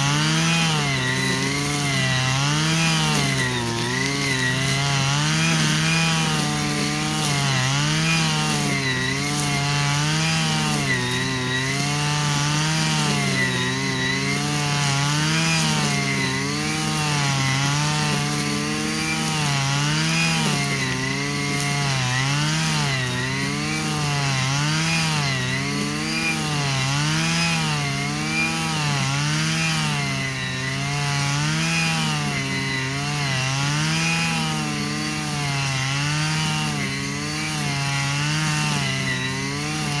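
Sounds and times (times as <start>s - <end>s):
brushcutter engine hunting: 0.0s - 40.0s.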